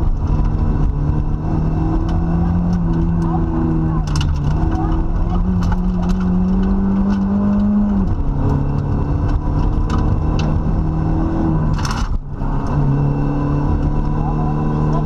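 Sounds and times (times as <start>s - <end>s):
rally car engine pulling hard: 0.0s - 15.0s.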